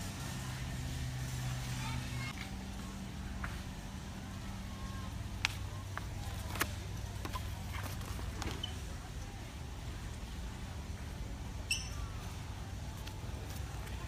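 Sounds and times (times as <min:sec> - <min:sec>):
low store hum: 0:00.0 - 0:14.0.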